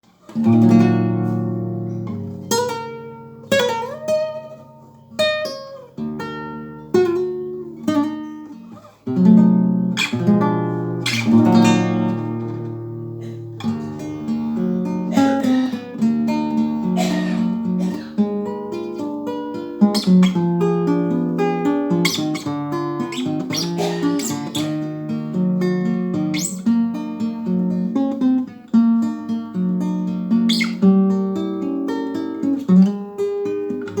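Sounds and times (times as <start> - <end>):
acoustic guitar plucking and strumming: 0.0 - 34.0.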